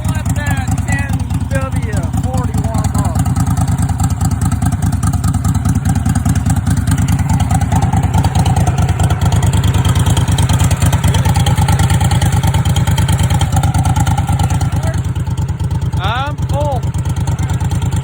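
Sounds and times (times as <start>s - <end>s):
cold engine idling: 0.0s - 18.0s.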